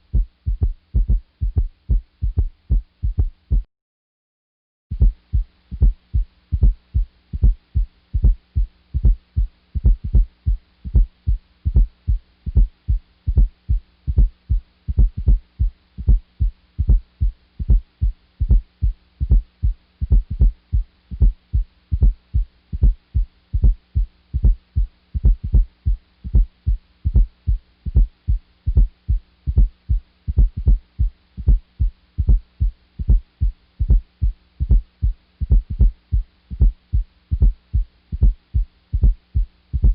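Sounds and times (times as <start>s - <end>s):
heartbeat thuds: 0.0s - 3.7s, 4.9s - 39.9s
steady low hum: 0.0s - 3.7s, 4.9s - 39.9s.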